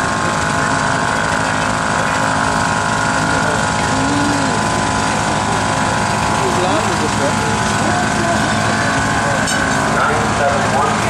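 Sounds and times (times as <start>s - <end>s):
engines chugging: 0.0s - 11.0s.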